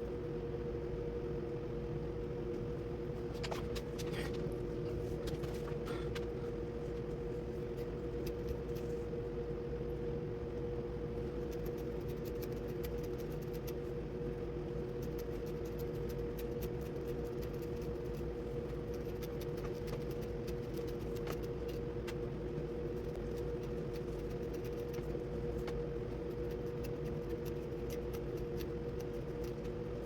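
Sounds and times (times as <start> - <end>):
mechanical hum with pitched tone: 0.0 - 30.0.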